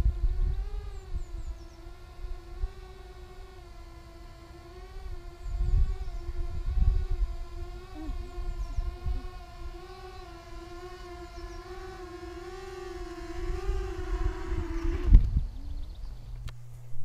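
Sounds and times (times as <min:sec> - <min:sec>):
wind rumble on microphone: 0:00.0 - 0:03.6, 0:04.9 - 0:17.0
quadcopter motors whining: 0:00.0 - 0:17.0.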